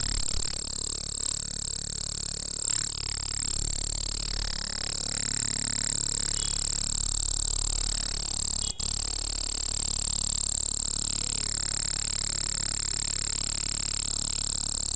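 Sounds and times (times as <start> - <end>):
insects trilling: 0.0 - 14.9.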